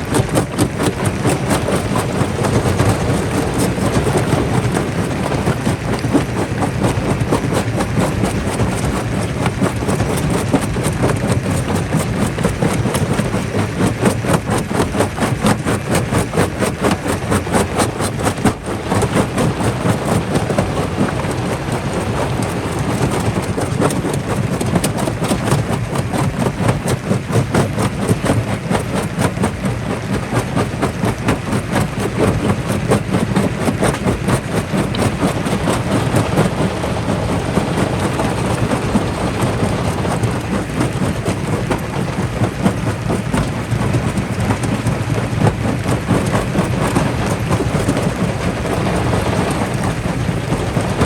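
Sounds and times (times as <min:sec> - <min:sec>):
low machine drone: 0:00.0 - 0:51.0
rock crusher rattling: 0:00.0 - 0:51.0.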